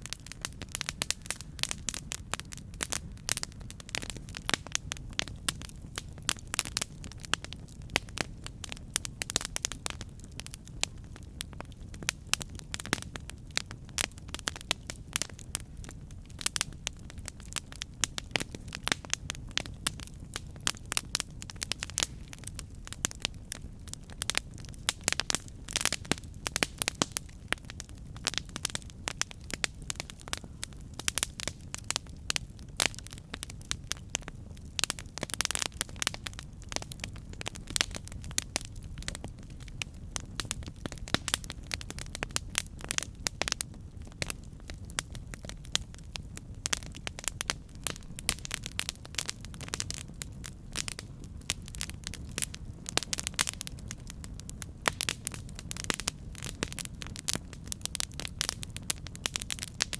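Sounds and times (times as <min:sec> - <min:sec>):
flames rumbling: 0:00.0 - 0:59.9
wood crackling and popping: 0:00.0 - 0:59.9.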